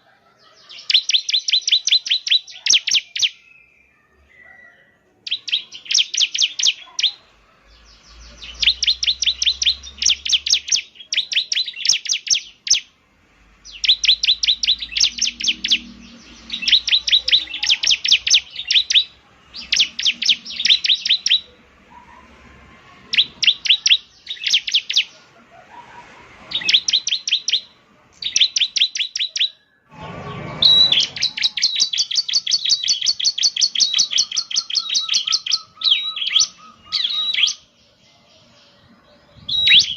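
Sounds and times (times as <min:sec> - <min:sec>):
bird singing fast chipping notes: 0:00.8 - 0:03.9, 0:05.2 - 0:13.0, 0:13.6 - 0:21.6, 0:23.0 - 0:25.2, 0:26.5 - 0:39.9.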